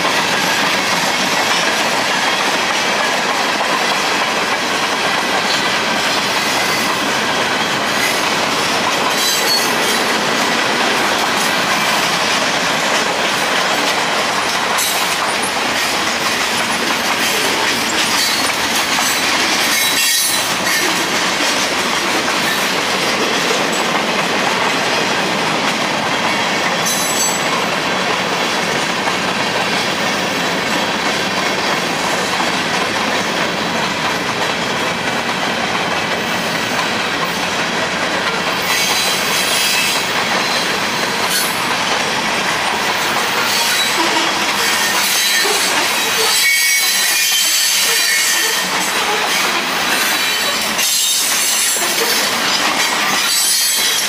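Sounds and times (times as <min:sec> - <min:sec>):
freight train rolling past: 0:00.0 - 0:54.0
steel wheels on rail: 0:00.0 - 0:54.0.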